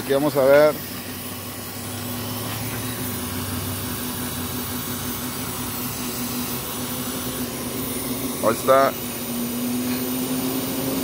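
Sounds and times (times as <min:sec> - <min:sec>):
truck engine humming: 0:00.0 - 0:11.0
lower hum: 0:00.7 - 0:11.0.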